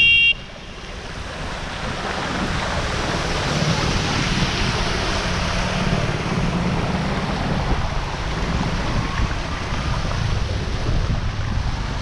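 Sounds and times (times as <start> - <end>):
bicycle tyres splashing through water: 0.0 - 12.0
wind rumbling on microphone: 0.4 - 12.0.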